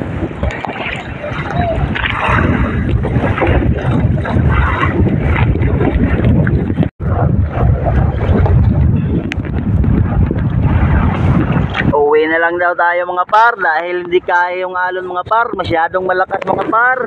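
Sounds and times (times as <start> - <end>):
waves splashing around boat: 0.0 - 17.0
wind buffeting microphone: 0.0 - 17.0.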